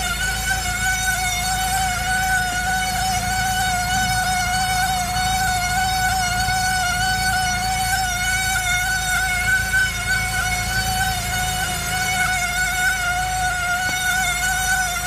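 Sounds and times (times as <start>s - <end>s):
high-pitched car squeal: 0.0s - 15.0s.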